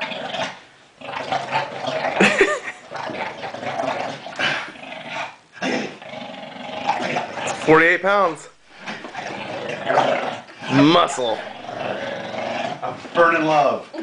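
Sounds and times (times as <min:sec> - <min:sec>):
dog growling in play: 0:00.0 - 0:07.9, 0:08.6 - 0:13.2.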